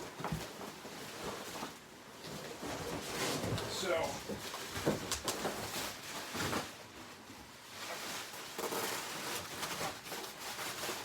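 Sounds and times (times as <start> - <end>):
rustling and scraping handling noise: 0.0 - 11.0.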